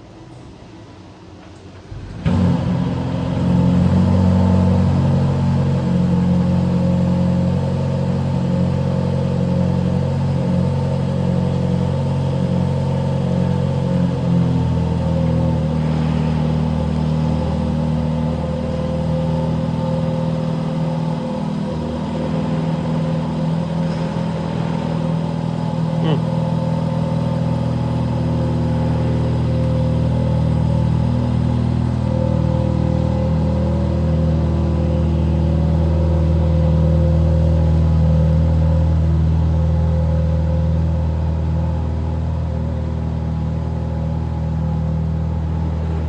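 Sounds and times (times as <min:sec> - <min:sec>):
car engine idling: 0:01.9 - 0:46.0.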